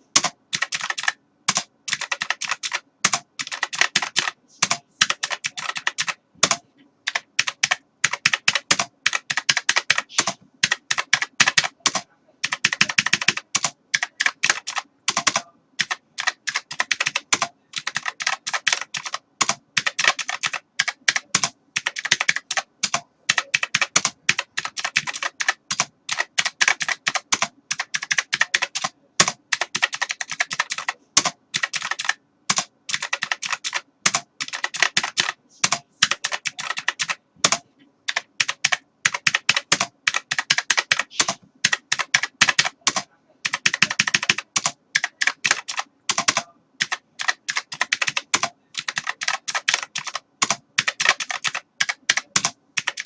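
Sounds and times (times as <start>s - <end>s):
keyboard typing: 0.0s - 53.0s.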